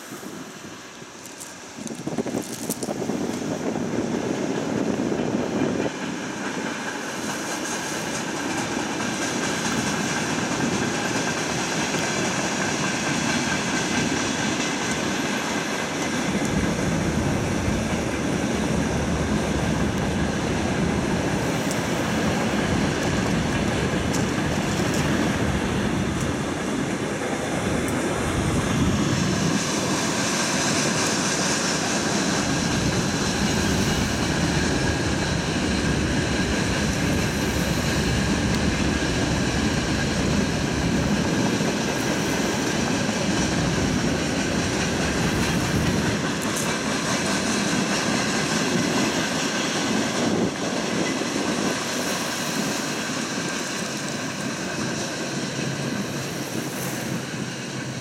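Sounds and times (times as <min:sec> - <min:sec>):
steel train wheels on rail: 0:00.0 - 0:58.0.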